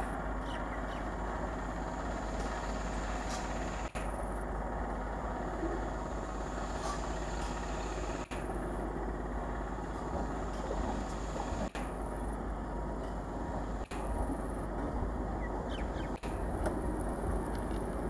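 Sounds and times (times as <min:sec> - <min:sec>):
train approaching rumble: 0:00.0 - 0:18.0.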